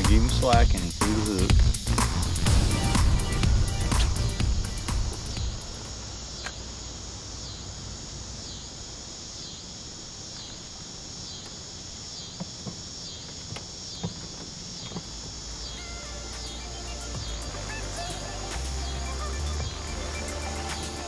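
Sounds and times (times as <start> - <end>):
insects calling in pulses: 0.0 - 21.0.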